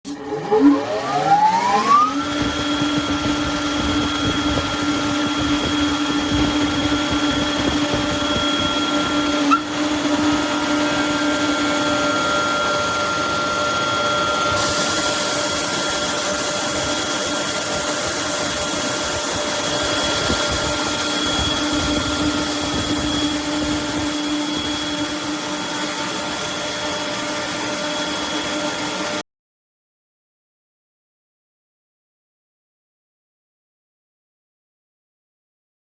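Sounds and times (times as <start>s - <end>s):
compressor motor whine: 0.1s - 29.2s.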